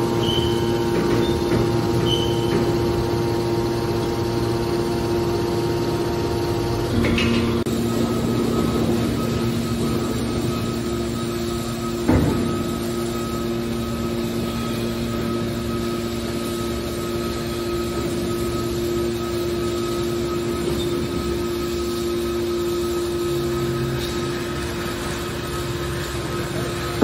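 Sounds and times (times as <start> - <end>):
hydraulic baler humming and whining: 0.0 - 27.0.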